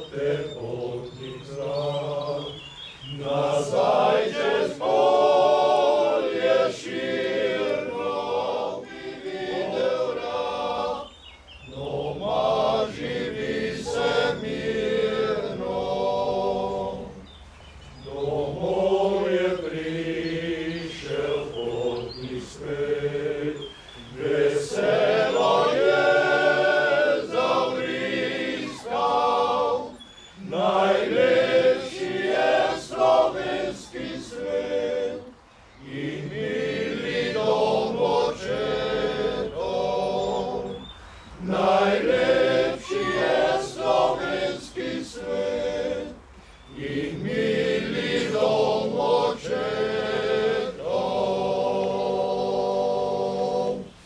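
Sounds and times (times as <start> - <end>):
male choir singing a cappella: 0.0 - 54.0.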